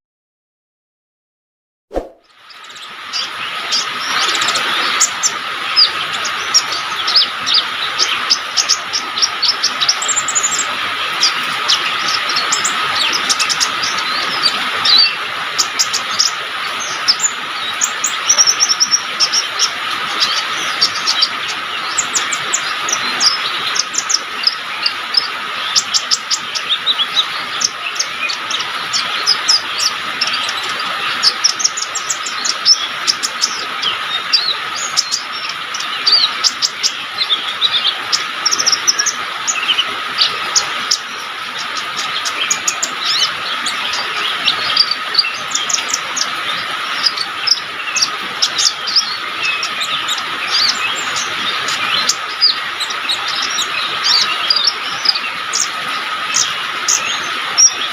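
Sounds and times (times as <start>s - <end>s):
bird chirping and trilling: 1.9s - 57.9s.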